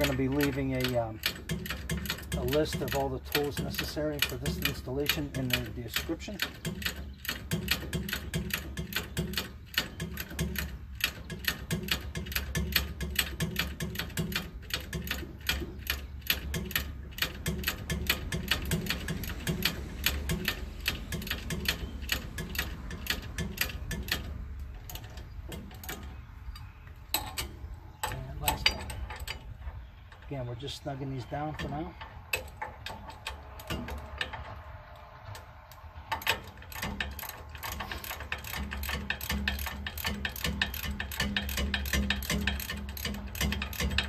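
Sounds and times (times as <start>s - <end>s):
hand ratchet clicking: 0.0s - 30.3s, 31.5s - 34.7s, 35.3s - 44.0s.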